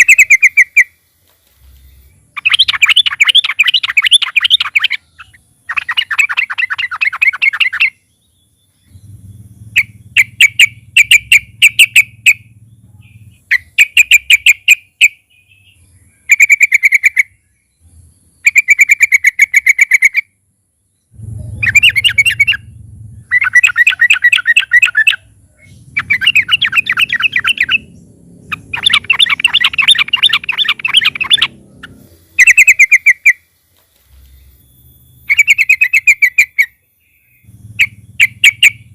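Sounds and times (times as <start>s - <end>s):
bird singing chattering phrases: 0.0s - 38.9s.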